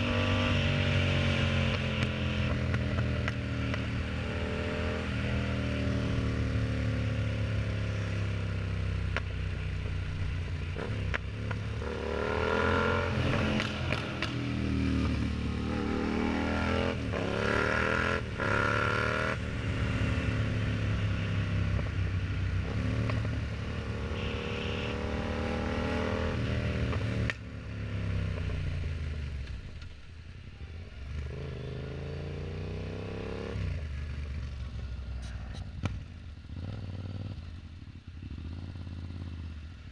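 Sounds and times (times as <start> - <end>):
motorcycle engine revving: 0.0 - 29.8, 30.6 - 39.9.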